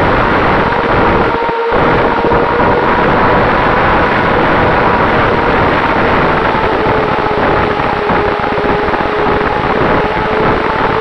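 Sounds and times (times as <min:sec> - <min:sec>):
electric motor and propeller hum: 0:00.0 - 0:11.0
wind rush over microphone: 0:00.0 - 0:11.0.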